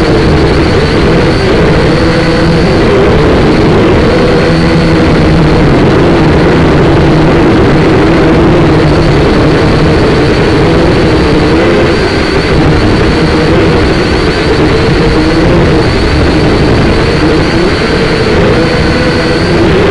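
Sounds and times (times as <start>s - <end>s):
drone propellers whirring: 0.0s - 19.9s.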